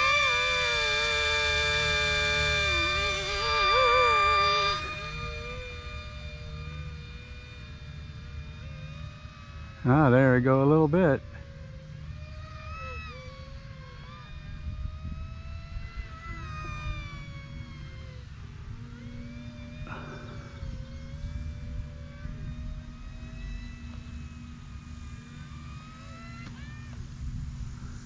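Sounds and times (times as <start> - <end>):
rc plane motor whining: 0.0 - 28.0.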